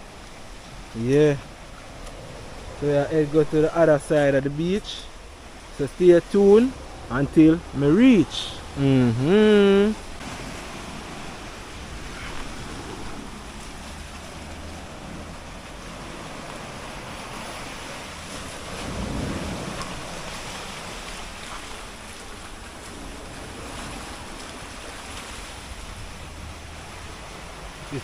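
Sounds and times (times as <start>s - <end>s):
sea surf: 0.0s - 28.0s
wind buffeting microphone: 0.0s - 28.0s.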